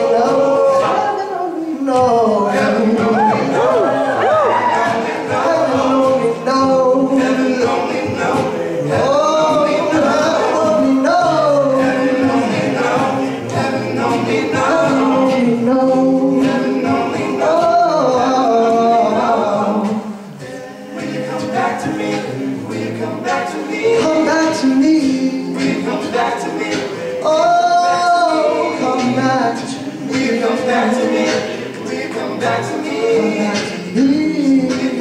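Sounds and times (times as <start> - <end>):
male a cappella group singing: 0.0 - 35.0.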